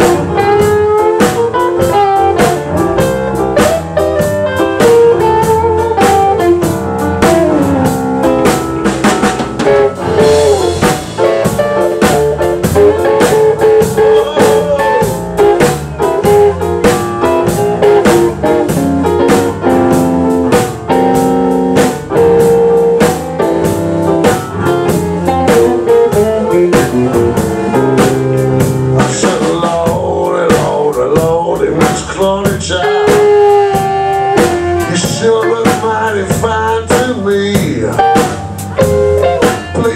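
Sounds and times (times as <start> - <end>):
electric guitar melody: 0.0 - 30.6, 31.2 - 39.9
drum kit beat: 0.0 - 39.9.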